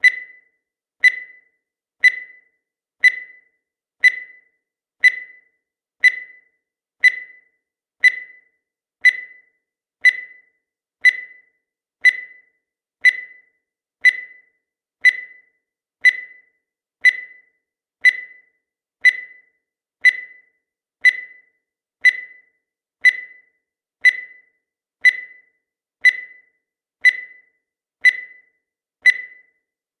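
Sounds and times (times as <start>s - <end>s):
high-pitched timer beeps: 0.0s - 29.7s.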